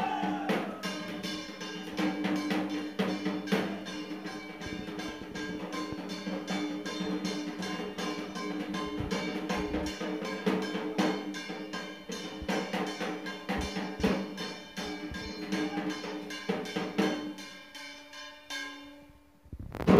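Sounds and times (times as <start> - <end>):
hand drum beaten with a stick: 0.0 - 17.4.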